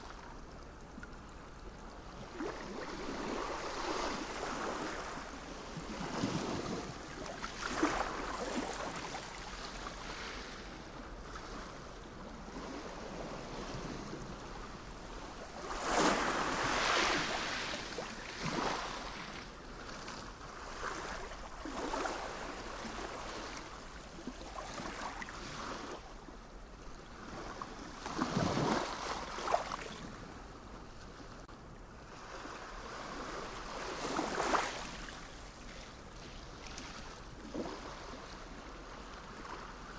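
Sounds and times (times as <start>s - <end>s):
sea waves breaking: 2.0s - 31.5s, 32.2s - 39.6s.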